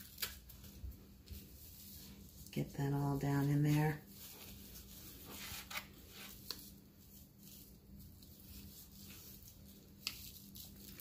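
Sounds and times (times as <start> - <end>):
hand rubbing raw meat: 0.0 - 11.0
low steady hum: 0.0 - 11.0.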